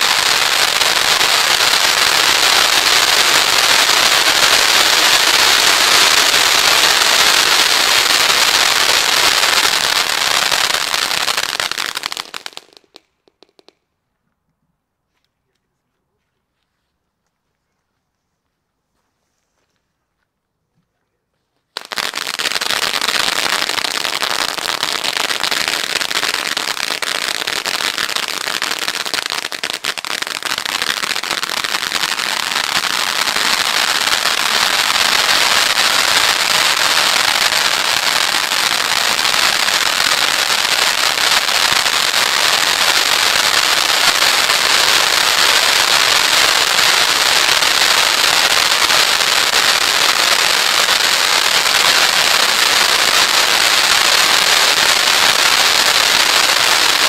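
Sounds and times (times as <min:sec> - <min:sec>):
firework fountain hissing and crackling: 0:00.0 - 0:13.8, 0:21.7 - 0:57.0.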